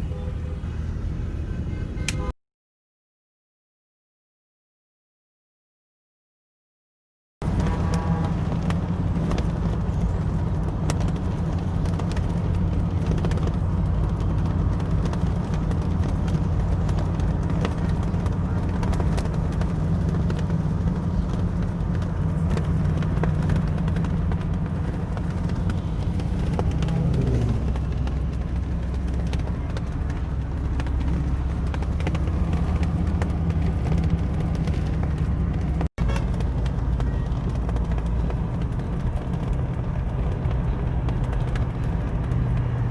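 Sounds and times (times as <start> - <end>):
car engine and road noise: 0.0 - 2.4, 7.4 - 42.9.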